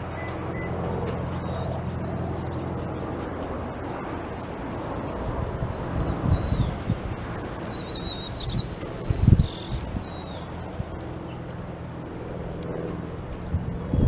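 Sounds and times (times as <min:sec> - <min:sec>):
songbird singing: 0:00.0 - 0:12.5
wind rumble on microphone: 0:00.0 - 0:14.0.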